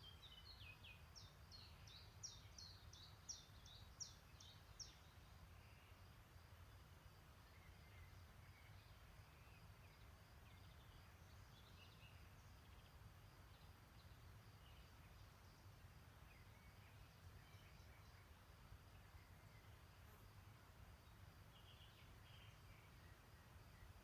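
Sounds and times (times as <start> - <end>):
faint birdsong chirps: 0.0 - 24.0
low background noise: 0.0 - 24.0.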